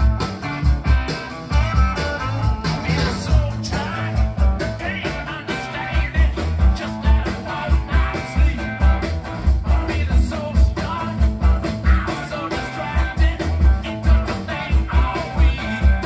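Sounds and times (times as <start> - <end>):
song with vocals and bass beat: 0.9 - 16.0.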